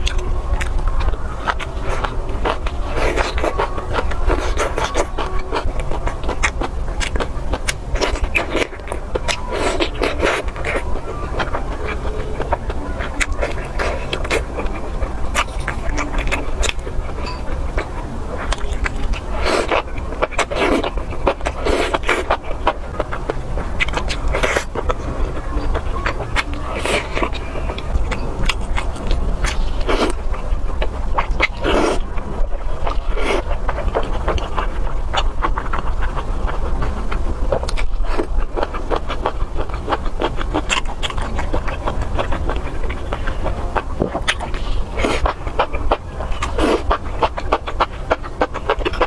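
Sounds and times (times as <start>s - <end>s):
close chewing and crunching: 0.0s - 49.0s
low hum: 0.0s - 49.0s.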